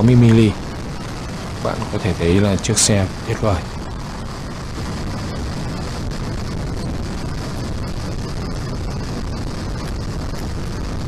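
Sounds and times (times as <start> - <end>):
wind rush: 0.0 - 11.0.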